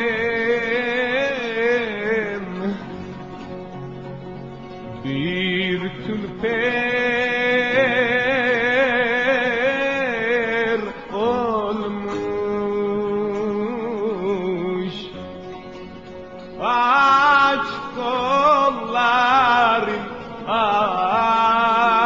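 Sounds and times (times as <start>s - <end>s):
steady musical accompaniment: 0.0s - 22.0s.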